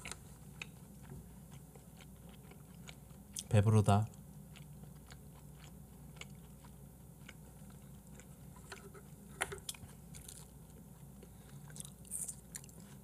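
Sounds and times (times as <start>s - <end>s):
person chewing food: 0.0s - 3.5s, 4.1s - 13.0s.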